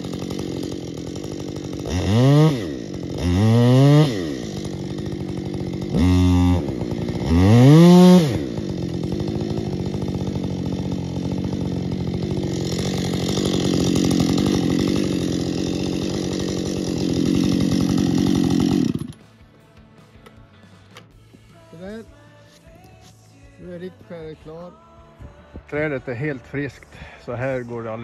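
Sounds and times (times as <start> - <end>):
chainsaw revving and cutting wood: 0.0 - 28.0.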